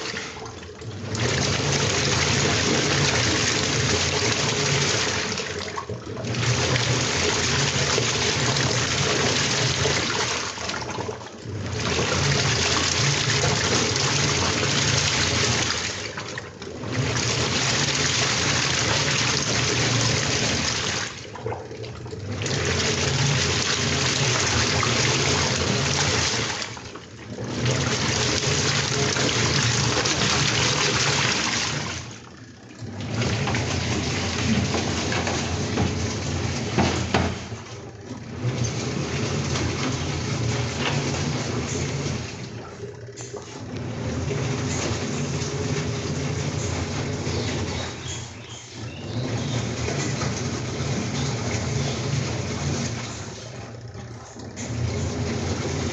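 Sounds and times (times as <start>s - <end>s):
washing machine water sloshing: 0.0s - 55.9s
low motor hum: 11.0s - 55.9s.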